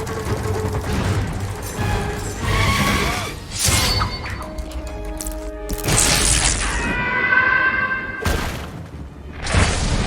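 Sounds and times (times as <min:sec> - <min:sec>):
film score music: 0:00.0 - 0:10.0.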